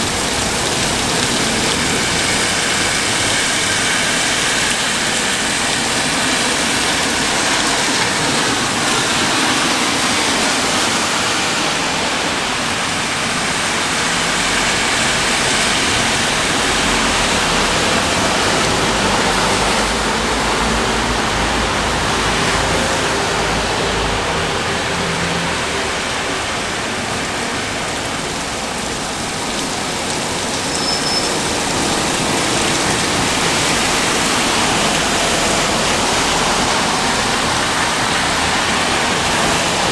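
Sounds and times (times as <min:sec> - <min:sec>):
steady rain shower hissing: 0:00.0 - 0:39.9.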